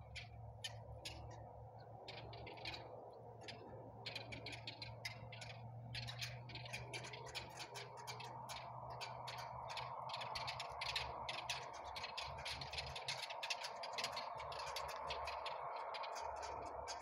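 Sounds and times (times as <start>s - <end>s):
faint steady hum: 0.0s - 17.0s
birds pecking on gravel: 2.1s - 17.0s.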